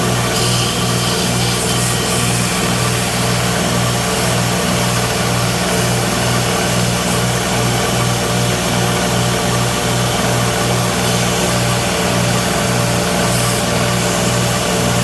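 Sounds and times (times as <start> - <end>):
electric sander running: 0.0 - 15.0.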